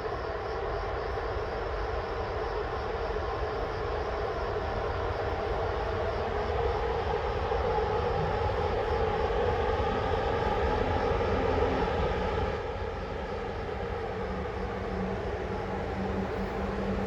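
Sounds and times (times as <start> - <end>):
railway locomotive droning: 0.0 - 17.0.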